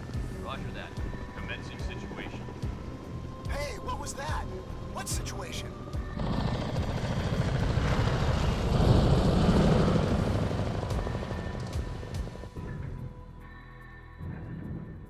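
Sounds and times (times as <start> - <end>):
helicopter rotors chopping: 0.0 - 13.2
music: 0.0 - 15.0.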